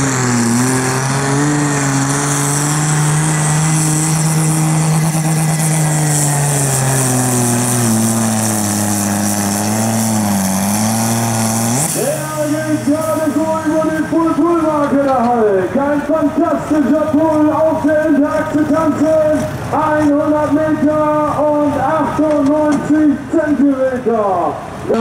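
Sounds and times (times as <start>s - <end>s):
diesel tractor engine droning: 0.0s - 25.0s.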